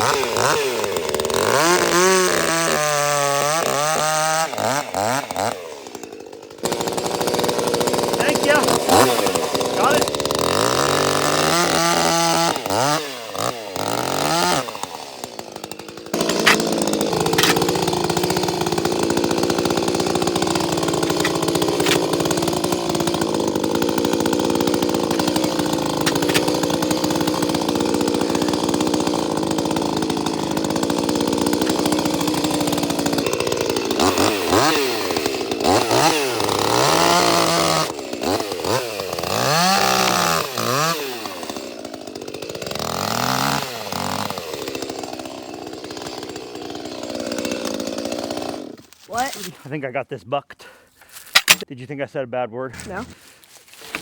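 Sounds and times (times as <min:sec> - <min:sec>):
chainsaw revving and cutting log: 0:00.0 - 0:49.5, 0:51.4 - 0:51.7, 0:52.8 - 0:54.0.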